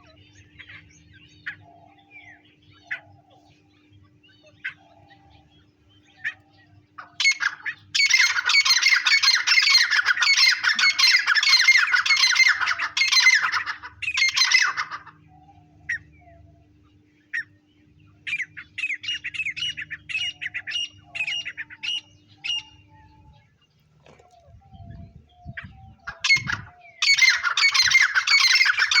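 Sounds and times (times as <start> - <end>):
francolins calling harshly: 0.0 - 29.0.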